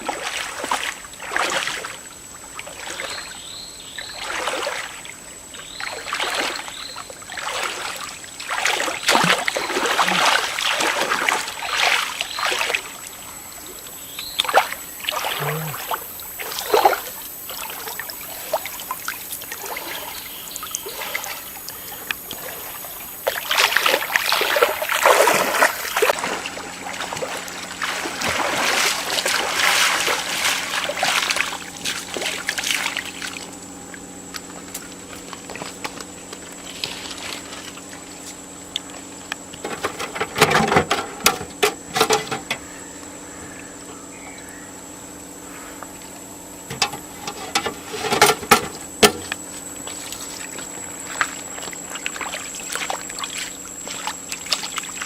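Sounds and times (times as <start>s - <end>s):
water splashing and sloshing: 0.0s - 43.8s, 44.7s - 55.0s.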